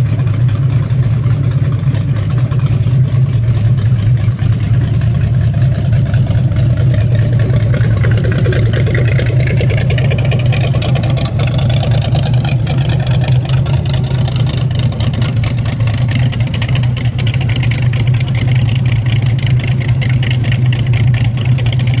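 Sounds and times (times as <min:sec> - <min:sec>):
engine idling with open exhaust: 0:00.0 - 0:22.0.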